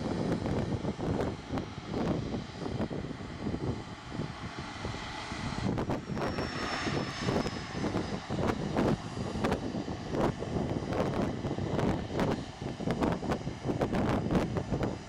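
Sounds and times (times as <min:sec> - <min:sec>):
high engine whine: 0:00.0 - 0:15.0
jet engines taxiing: 0:00.0 - 0:15.0.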